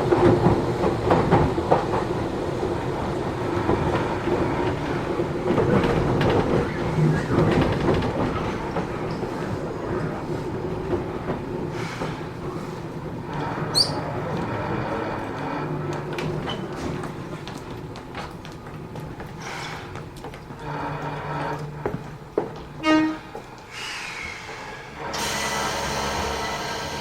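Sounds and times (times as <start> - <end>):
clickety-clack of rail joints: 0.0 - 27.0
train hum: 0.0 - 27.0
train wheels rumbling on rail: 0.0 - 27.0.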